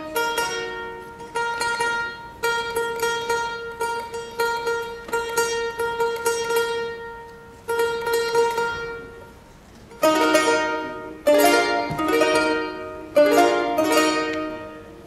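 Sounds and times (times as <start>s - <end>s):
charango chords strummed: 0.0s - 15.0s
charango tremolo: 0.0s - 15.0s.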